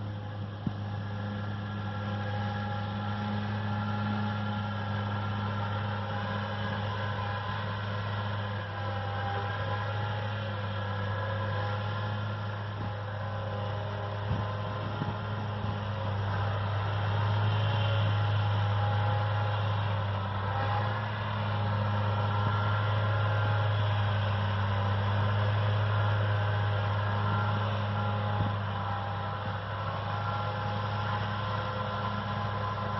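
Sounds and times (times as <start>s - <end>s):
mower drive whine: 0.0s - 32.9s
tractor engine hum: 0.0s - 32.9s.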